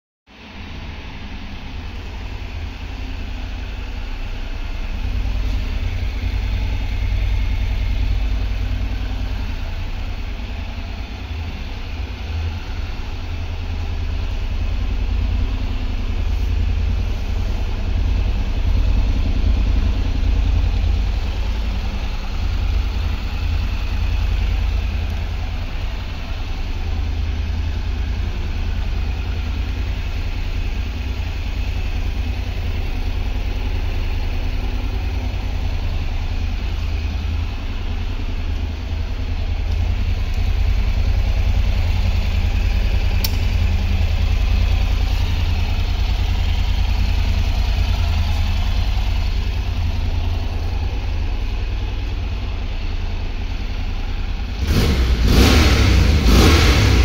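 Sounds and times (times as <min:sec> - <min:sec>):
motorcycle engine idling: 0:00.3 - 0:57.0.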